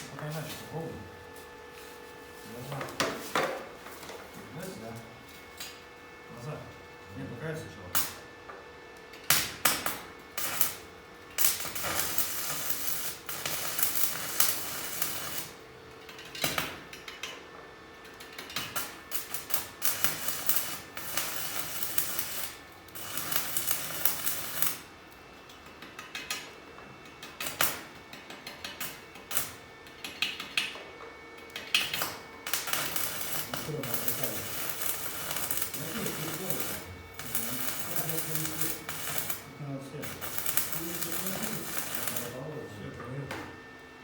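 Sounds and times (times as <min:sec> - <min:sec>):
arc welding crackling: 0:00.0 - 0:30.8, 0:31.4 - 0:43.6.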